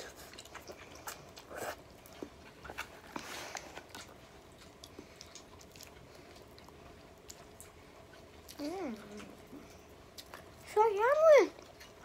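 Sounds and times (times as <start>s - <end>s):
child slurping and chewing noodles: 0.0s - 10.8s.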